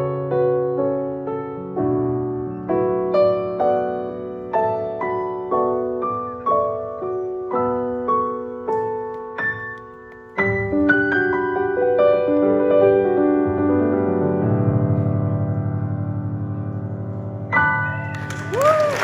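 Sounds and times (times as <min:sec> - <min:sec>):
slow solo piano: 0:00.0 - 0:18.8.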